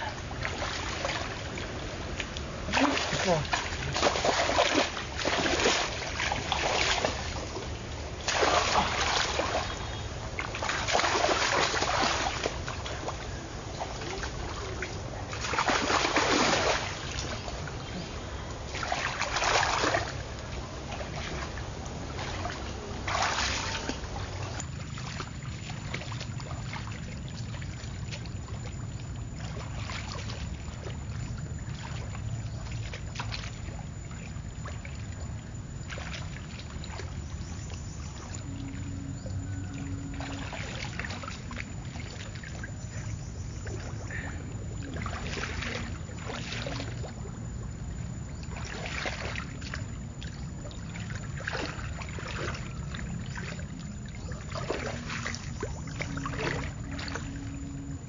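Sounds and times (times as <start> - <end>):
water splashing and sloshing: 0.0 - 58.0
water trickling: 0.0 - 58.0.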